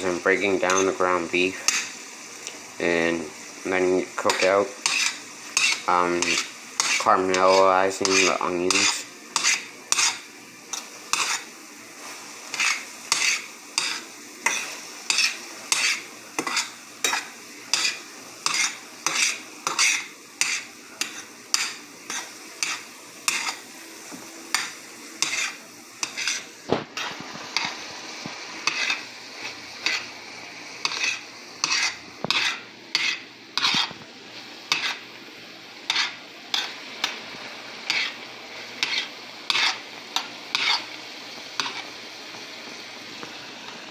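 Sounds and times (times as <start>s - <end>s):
utensil scraping and stirring: 0.0s - 27.9s, 28.6s - 30.1s, 30.8s - 34.0s, 34.7s - 35.0s, 35.9s - 38.2s, 38.8s - 40.9s, 41.6s - 41.9s
meat and onions sizzling in a pan: 0.0s - 43.9s.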